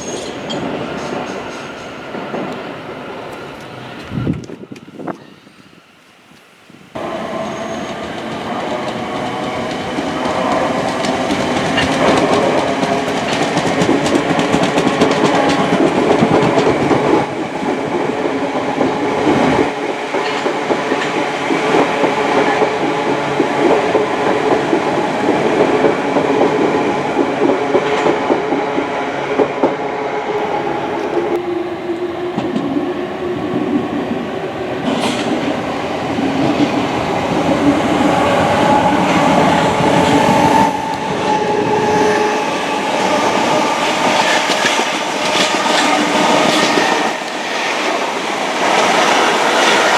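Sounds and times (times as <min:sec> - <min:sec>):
train wheels clattering over rails: 0:00.0 - 0:05.5, 0:07.0 - 0:28.4, 0:30.4 - 0:49.9.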